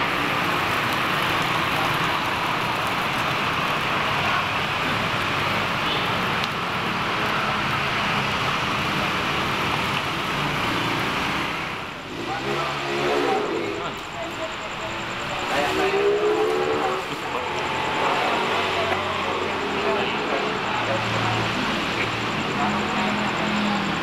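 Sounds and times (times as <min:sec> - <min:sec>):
street traffic hiss: 0:00.0 - 0:24.0.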